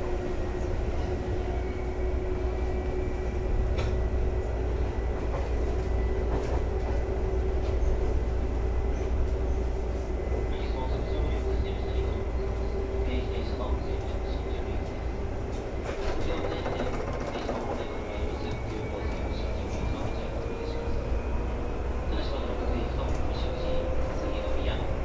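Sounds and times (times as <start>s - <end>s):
train wheels and motors rumbling: 0.0s - 25.0s.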